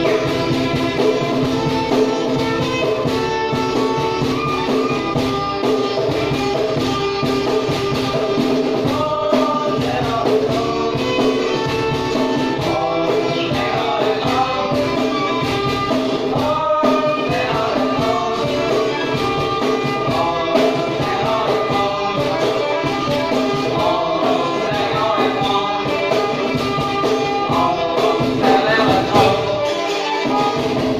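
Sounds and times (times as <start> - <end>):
song with singing over instruments: 0.0 - 30.9.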